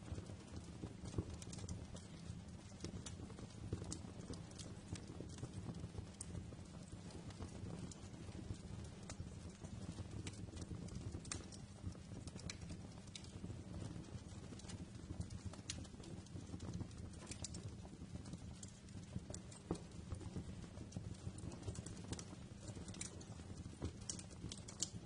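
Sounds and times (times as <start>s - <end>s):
low rumble of fire: 0.0s - 25.0s
wood fire crackling: 0.0s - 25.0s.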